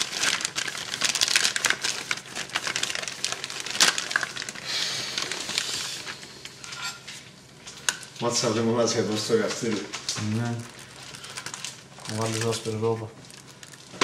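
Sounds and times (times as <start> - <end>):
plastic bag crinkling: 0.0 - 6.7, 7.5 - 14.0.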